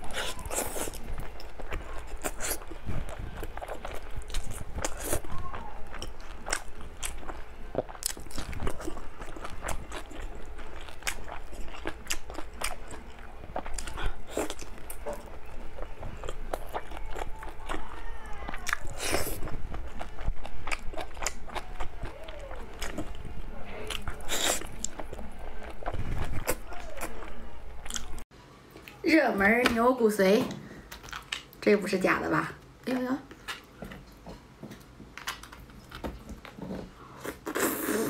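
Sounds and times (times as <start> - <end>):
person chewing food: 0.0 - 29.0, 30.8 - 31.6, 33.3 - 38.0.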